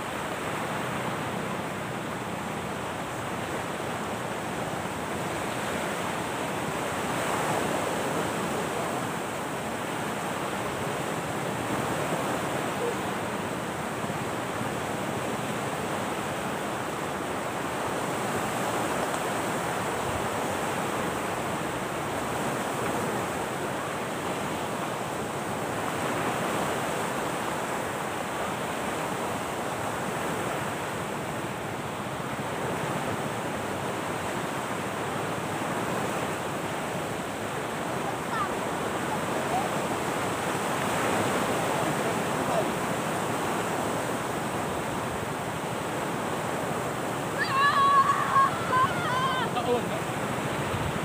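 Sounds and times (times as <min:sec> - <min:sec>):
surf rushing on shore: 0:00.0 - 0:51.0.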